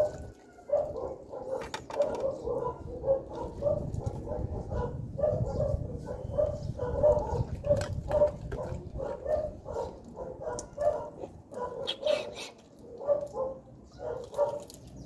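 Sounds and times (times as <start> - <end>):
dog barking: 0.0 - 14.7.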